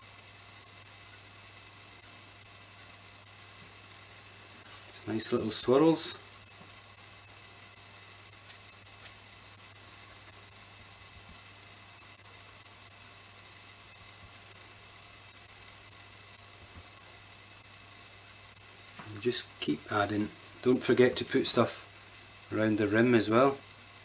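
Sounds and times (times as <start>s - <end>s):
high-pitched hiss: 0.0s - 24.0s
low even hum: 0.0s - 24.0s.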